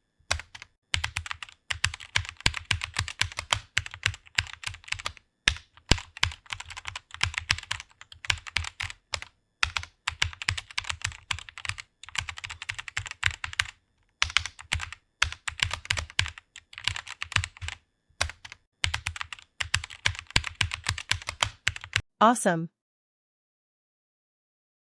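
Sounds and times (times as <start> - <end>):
fast typing on keyboard: 0.3 - 22.0.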